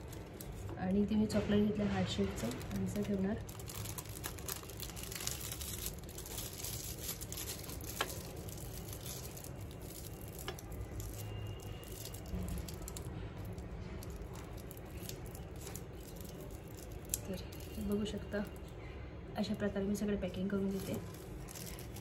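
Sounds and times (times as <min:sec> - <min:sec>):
candy wrapper crackling: 0:00.0 - 0:01.1, 0:02.2 - 0:18.8, 0:20.3 - 0:22.0.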